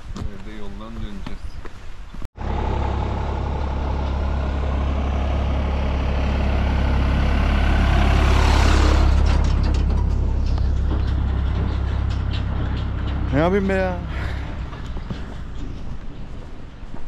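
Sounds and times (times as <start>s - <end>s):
large vehicle engine rumbling: 2.4s - 17.0s.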